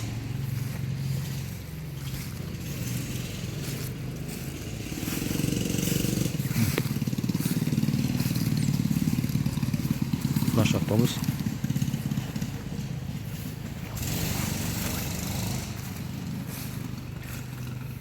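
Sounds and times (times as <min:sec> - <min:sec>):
engine low pulsing rumble: 0:00.0 - 0:18.0.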